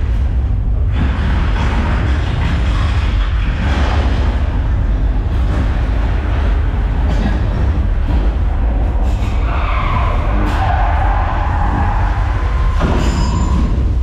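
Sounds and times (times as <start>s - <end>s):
deep rumble: 0.0s - 14.0s.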